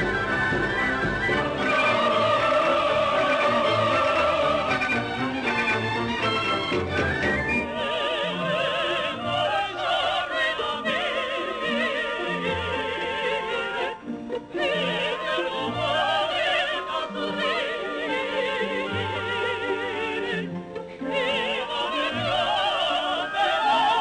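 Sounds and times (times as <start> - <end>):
operatic singing: 0.0 - 24.0
orchestra playing: 0.0 - 24.0.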